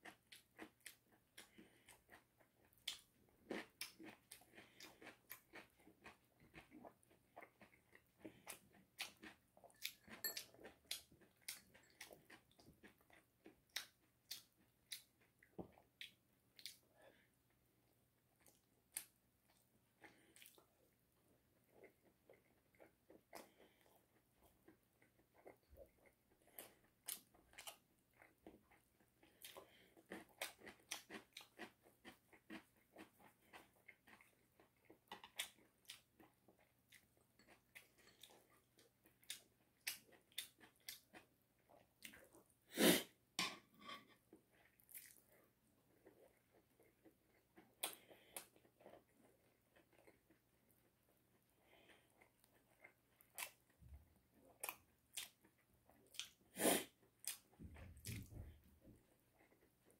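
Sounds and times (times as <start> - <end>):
wet chewing sounds: 0.0 - 17.3, 18.4 - 42.6, 44.3 - 59.9.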